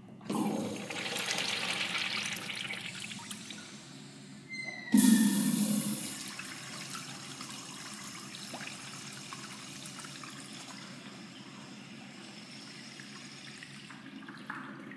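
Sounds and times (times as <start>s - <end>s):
urinal flushing: 0.2s - 3.9s, 4.5s - 14.9s.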